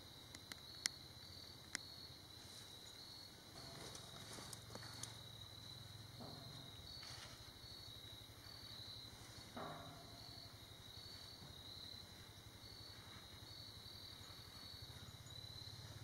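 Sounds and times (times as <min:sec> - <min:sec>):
high pulsing insect trill: 0:00.0 - 0:16.0.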